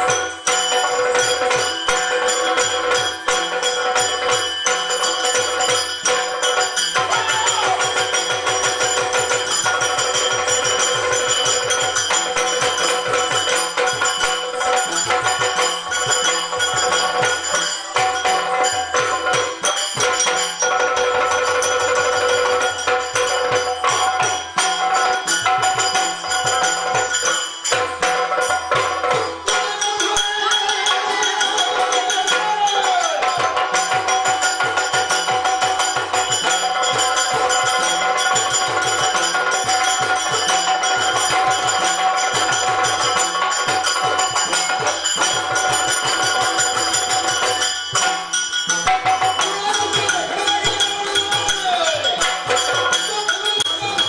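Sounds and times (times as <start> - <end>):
drums beating fast rhythm: 0.0 - 54.0
hand cymbals ringing: 0.0 - 54.0.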